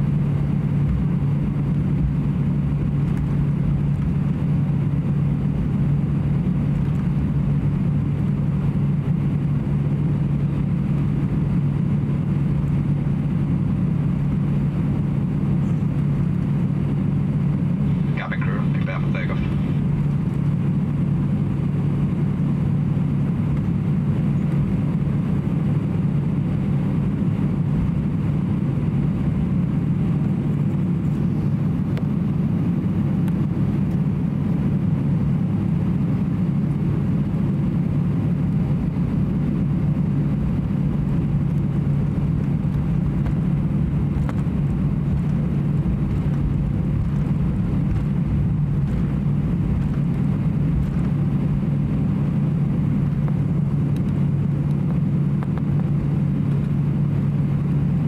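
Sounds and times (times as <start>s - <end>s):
airplane cabin drone: 0.0s - 58.0s.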